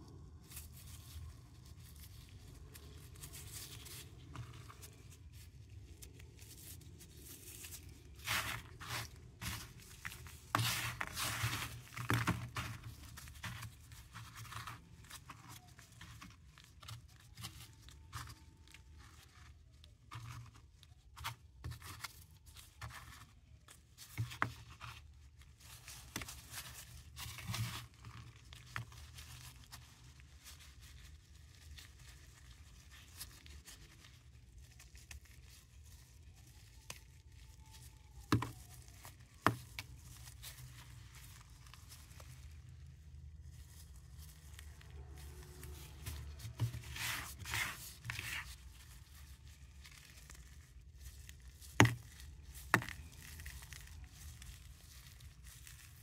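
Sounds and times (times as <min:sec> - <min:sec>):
mothballs crunching and crumbling: 0:00.0 - 0:56.0.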